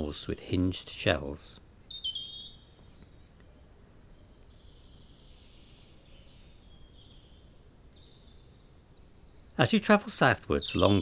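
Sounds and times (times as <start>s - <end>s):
small birds chirping and trilling: 0.0s - 11.0s.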